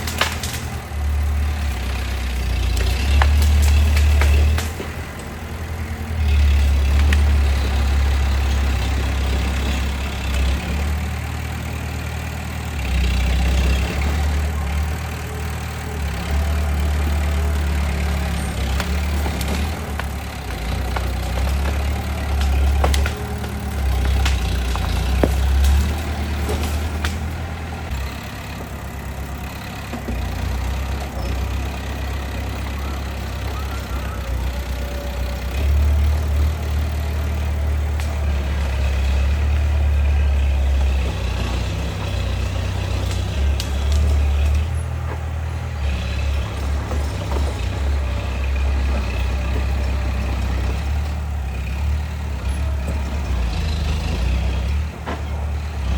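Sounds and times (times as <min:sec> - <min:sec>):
bulldozer diesel engine rumble: 0:00.0 - 0:55.9.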